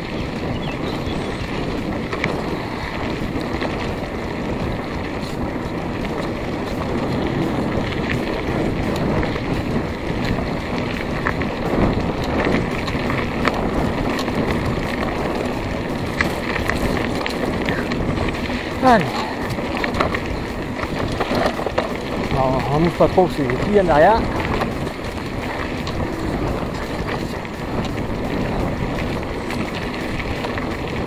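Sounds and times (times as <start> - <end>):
bike clicks and rattles: 0.0 - 31.0
tyre rumble on dirt: 0.0 - 31.0
wind noise on microphone: 0.0 - 31.0.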